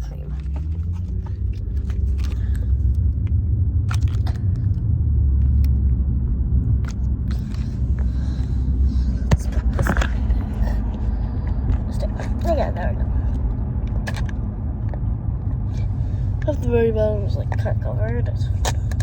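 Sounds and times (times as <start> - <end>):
road rumble inside car: 0.0 - 19.0.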